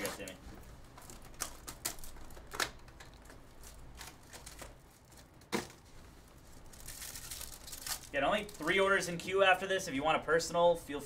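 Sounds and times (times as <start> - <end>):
plastic wrapping crinkling and tearing: 0.0 - 9.0.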